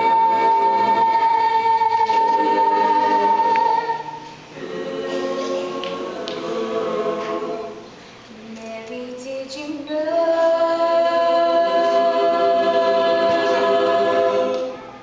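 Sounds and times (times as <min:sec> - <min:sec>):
mixed choir singing: 0:00.0 - 0:08.0, 0:10.0 - 0:15.0.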